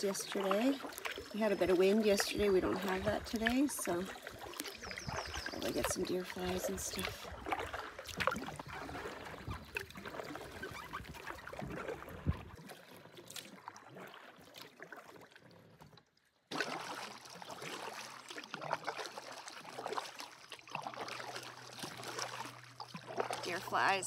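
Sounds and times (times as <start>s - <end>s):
canoe paddle strokes in water: 0.0s - 24.0s
water trickling off paddle: 0.0s - 24.0s.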